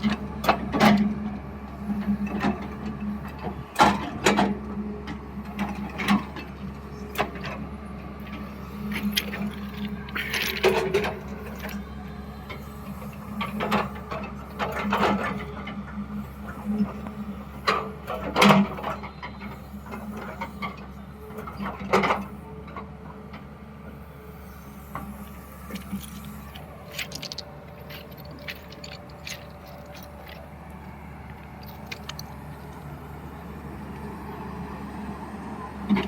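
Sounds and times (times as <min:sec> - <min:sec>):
digger diesel engine running: 0:00.0 - 0:36.0.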